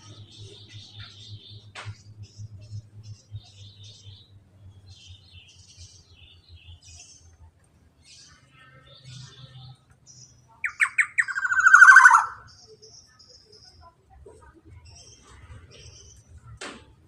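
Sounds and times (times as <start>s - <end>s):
bird singing: 0.0s - 16.6s.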